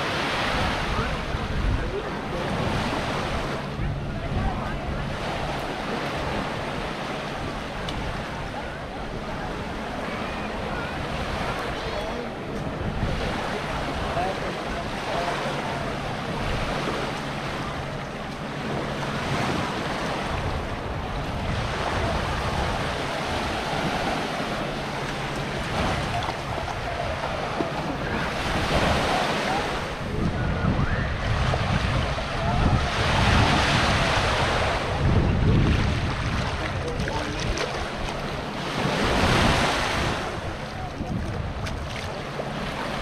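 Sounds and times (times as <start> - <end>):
small waves breaking on sand: 0.0 - 43.0
wind buffeting microphone: 0.0 - 43.0.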